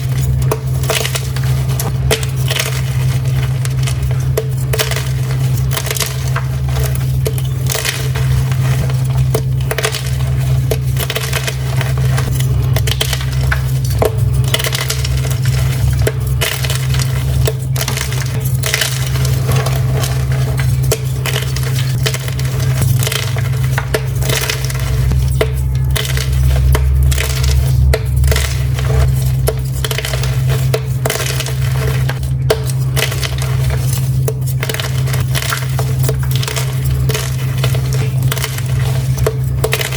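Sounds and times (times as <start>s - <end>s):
chalk crunching and crumbling: 0.0s - 39.9s
steady low hum: 0.0s - 39.9s.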